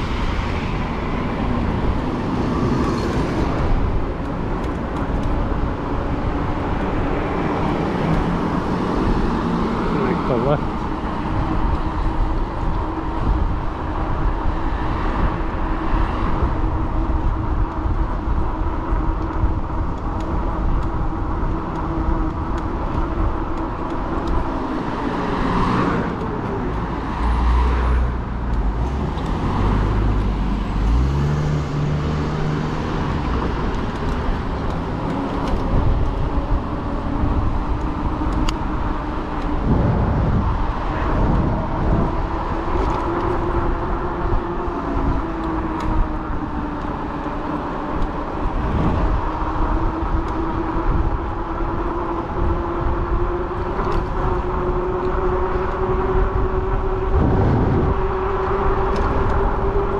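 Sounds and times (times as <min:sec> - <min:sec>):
vehicles passing by: 0:00.0 - 0:59.9
wind and tyre rumble: 0:00.0 - 0:59.9.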